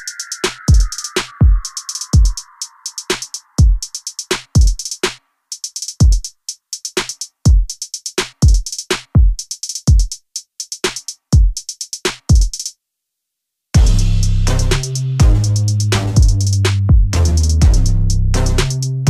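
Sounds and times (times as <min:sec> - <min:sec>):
electronic drum machine beat: 0:00.0 - 0:12.7, 0:13.8 - 0:19.0
hi-hat ticks: 0:00.0 - 0:12.7, 0:13.8 - 0:19.0.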